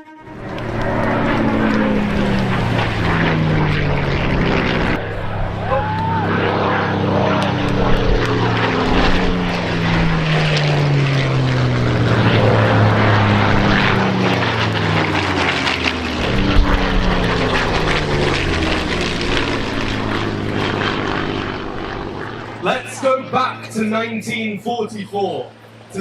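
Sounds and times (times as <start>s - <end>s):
propeller plane engine passing: 0.0s - 26.0s.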